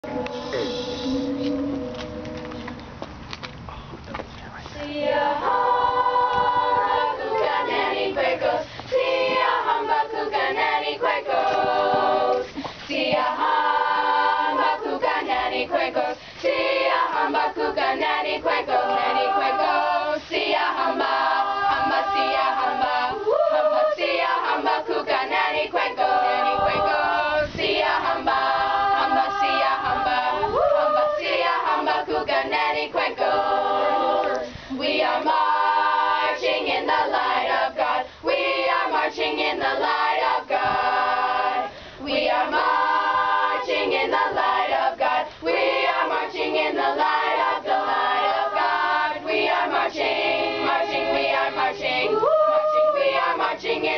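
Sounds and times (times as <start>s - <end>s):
girls choir singing a cappella: 0.0s - 2.8s, 4.7s - 53.9s.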